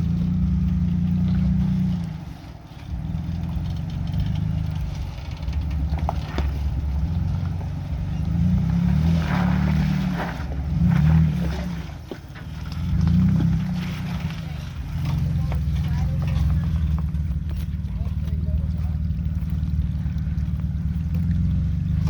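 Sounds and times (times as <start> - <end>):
off-road vehicle engine rumbling: 0.0 - 22.0.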